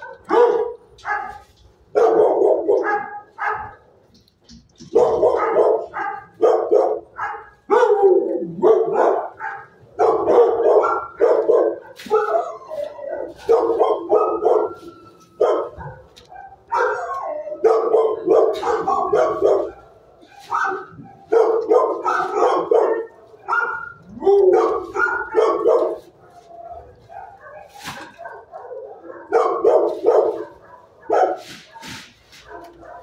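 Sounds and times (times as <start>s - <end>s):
dogs barking: 0.0s - 33.0s.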